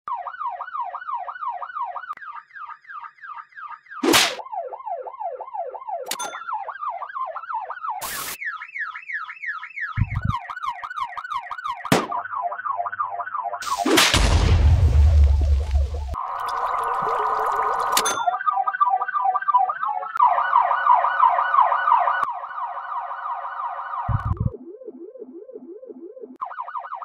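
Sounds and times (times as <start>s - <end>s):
electronic police siren wailing: 0.1s - 13.9s, 15.2s - 27.0s.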